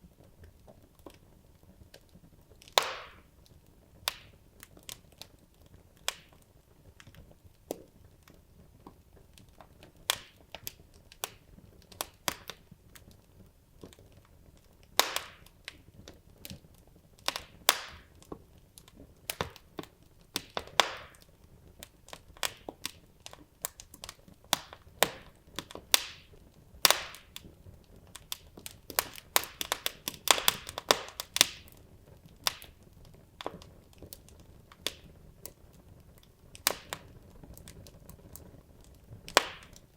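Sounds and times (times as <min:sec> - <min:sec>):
faint low hiss: 0:00.0 - 0:39.9
logs crackling in a fireplace: 0:00.0 - 0:39.9.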